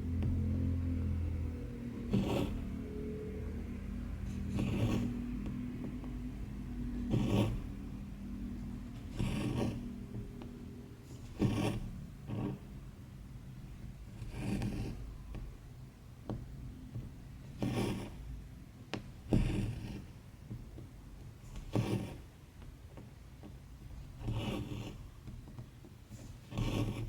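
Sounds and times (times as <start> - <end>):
thread rasping through fabric: 1.9 - 3.3, 4.0 - 12.9, 13.8 - 18.2, 18.9 - 27.0.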